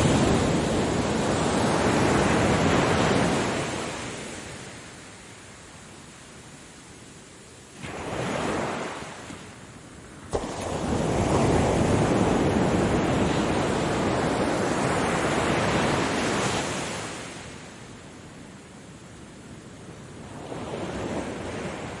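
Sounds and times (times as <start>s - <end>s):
ocean waves breaking on shore: 0.0s - 22.0s.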